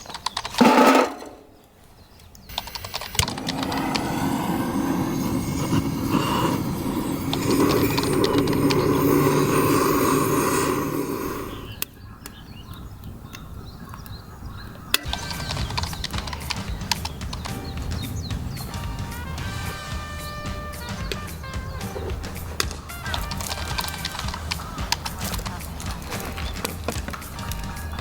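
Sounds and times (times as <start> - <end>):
straw fire crackling and hissing: 1.9 - 14.2, 14.8 - 28.0.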